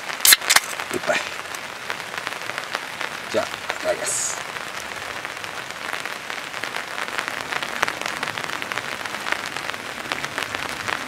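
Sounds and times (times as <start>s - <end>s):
rain on a tarp: 0.0s - 11.0s.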